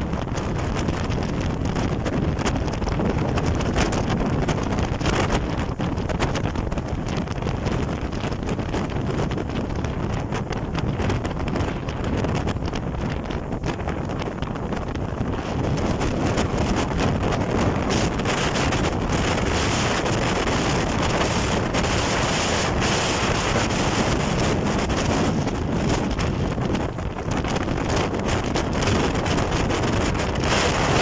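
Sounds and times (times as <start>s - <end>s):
choppy water rushing past boat: 0.0s - 31.0s
wind buffeting microphone: 0.0s - 31.0s.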